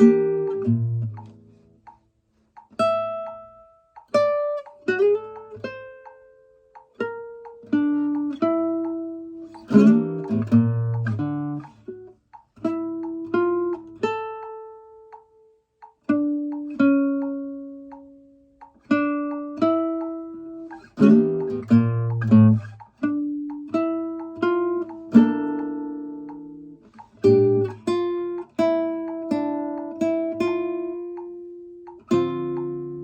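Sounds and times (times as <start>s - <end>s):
guitar plucked chords and notes: 0.0s - 33.0s.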